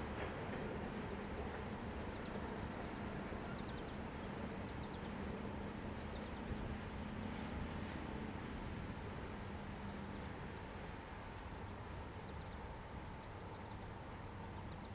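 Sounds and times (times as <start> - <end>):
freight train rumbling: 0.0 - 14.9.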